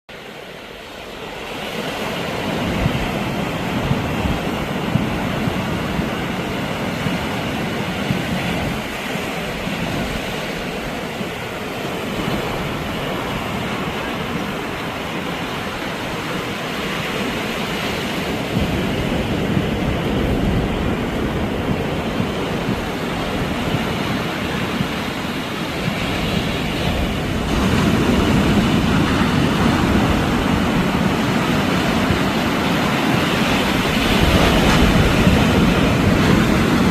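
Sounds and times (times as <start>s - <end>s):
sea waves washing ashore: 0.1s - 36.9s
wind blowing: 0.1s - 36.9s.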